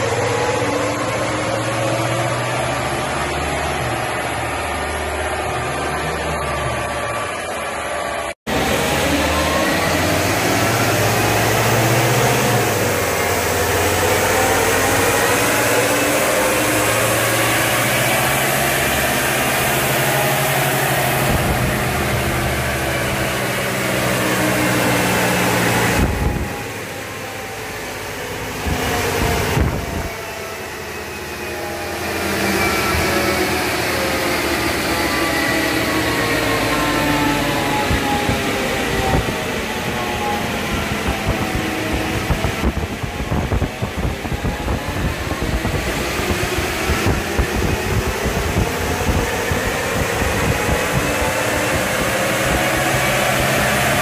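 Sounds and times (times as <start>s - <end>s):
diesel engine revving under load: 0.0s - 54.0s
large cooling fan blowing: 8.1s - 54.0s.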